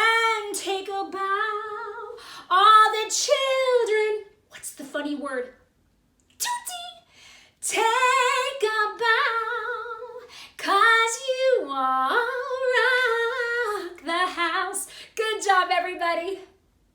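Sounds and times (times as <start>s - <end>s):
woman singing: 0.0s - 5.6s, 6.4s - 7.0s, 7.6s - 16.6s.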